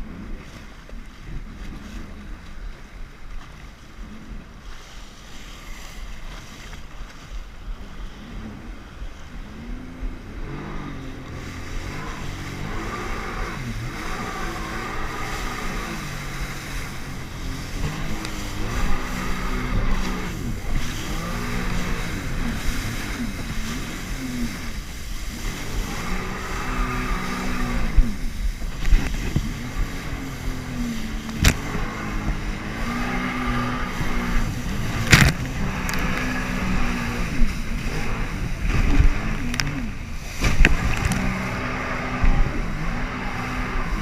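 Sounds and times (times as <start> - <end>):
jet ski engine revving: 0.0 - 2.9, 7.6 - 44.0
steady rushing noise: 4.0 - 44.0.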